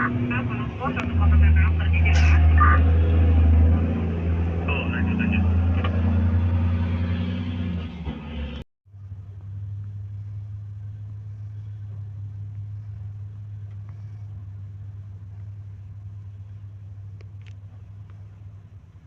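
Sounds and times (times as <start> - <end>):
diesel engine idling: 0.0 - 6.8, 8.0 - 19.0.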